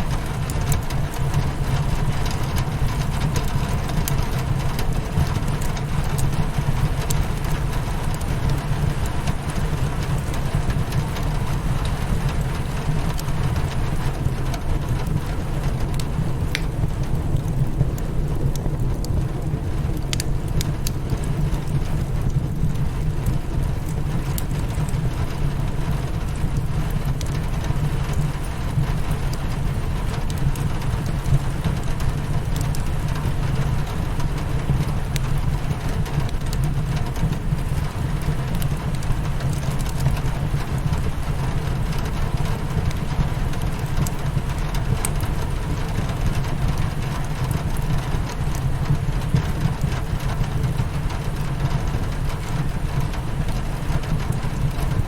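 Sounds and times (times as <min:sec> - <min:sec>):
low steady rumble: 0:00.0 - 0:55.0
rain on a windowpane: 0:00.0 - 0:55.0
wood fire crackling: 0:00.0 - 0:55.0.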